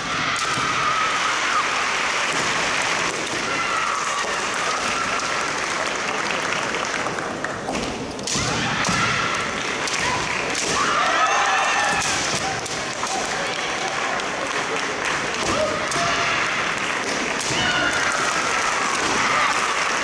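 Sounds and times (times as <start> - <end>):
hall and crowd noise: 0.0 - 20.0.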